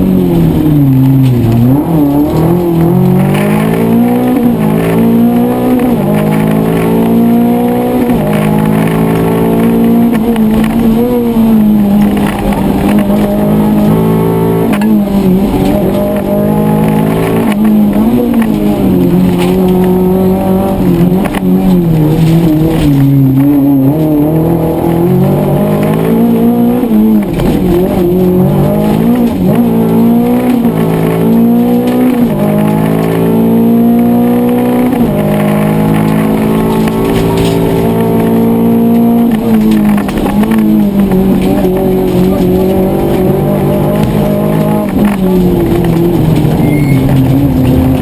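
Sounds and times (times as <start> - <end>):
rally car engine at full throttle: 0.0 - 48.0.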